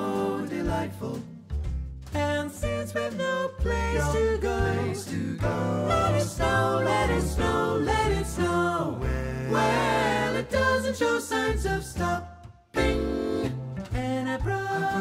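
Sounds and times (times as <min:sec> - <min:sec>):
singing voices: 0:00.0 - 0:01.5, 0:02.1 - 0:15.0
bass-heavy backing music: 0:00.0 - 0:15.0.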